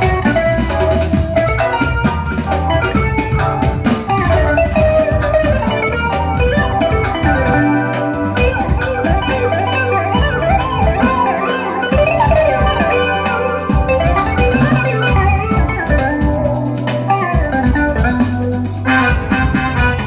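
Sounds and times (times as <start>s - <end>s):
heavy bass: 0.0s - 20.0s
steady drum beat: 0.0s - 20.0s
synthesizer lead melody: 0.0s - 20.0s.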